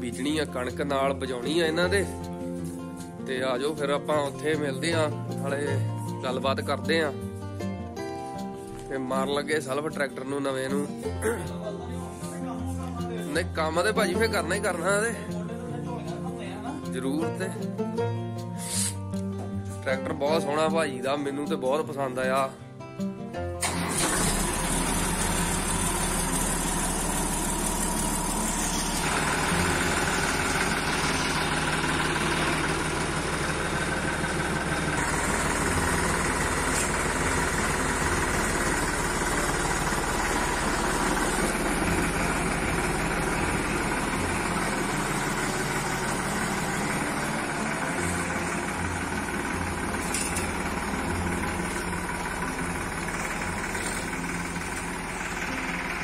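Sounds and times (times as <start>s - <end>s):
tractor diesel engine idling: 0.0s - 7.1s, 8.3s - 16.2s, 16.9s - 17.7s, 23.6s - 56.0s.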